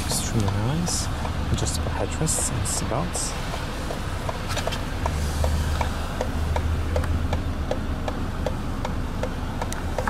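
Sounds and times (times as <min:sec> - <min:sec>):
low hum inside car: 0:00.0 - 0:10.0
light ticking: 0:00.1 - 0:10.0.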